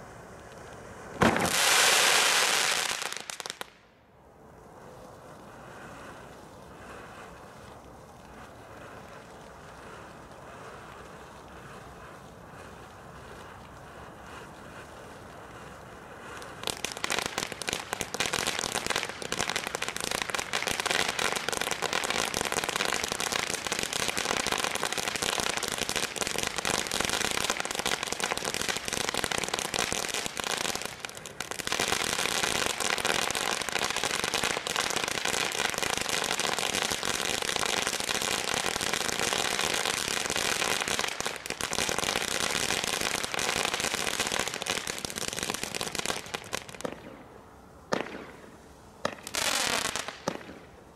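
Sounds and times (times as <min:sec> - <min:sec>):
firework fountain crackling: 0:00.0 - 0:50.9.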